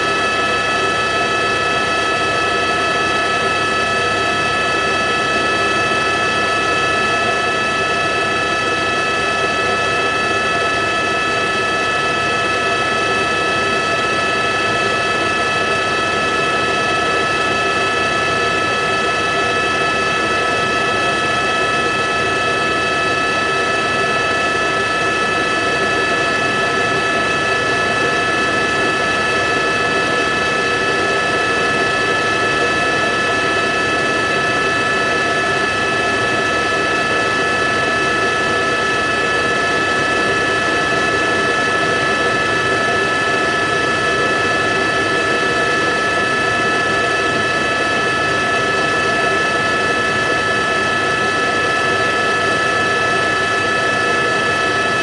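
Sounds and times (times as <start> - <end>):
aircraft engine whine and rush: 0.0 - 55.0.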